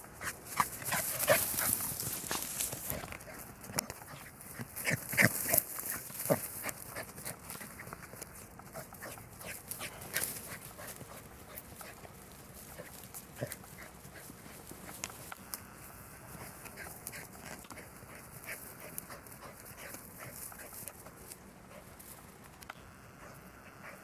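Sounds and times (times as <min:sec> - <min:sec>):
dog paws on dry grass: 0:00.0 - 0:24.0.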